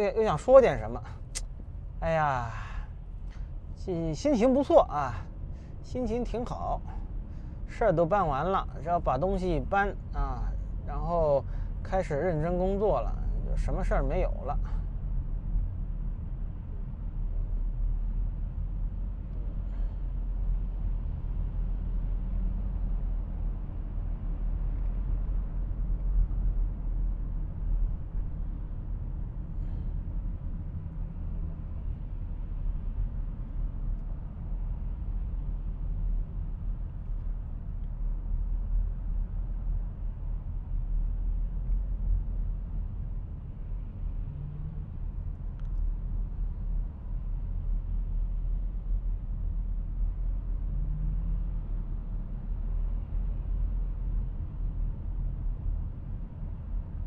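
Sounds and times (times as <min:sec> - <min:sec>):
road rumble inside car: 0:00.0 - 0:57.0.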